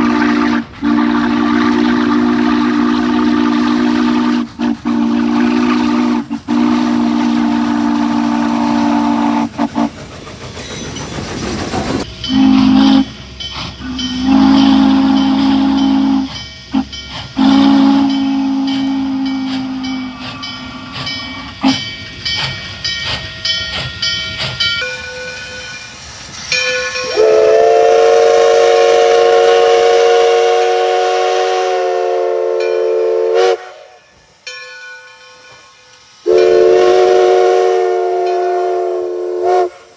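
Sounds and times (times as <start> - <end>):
steam locomotive chime whistle: 0.0 - 9.9, 12.0 - 39.9
steam hiss: 0.0 - 39.9.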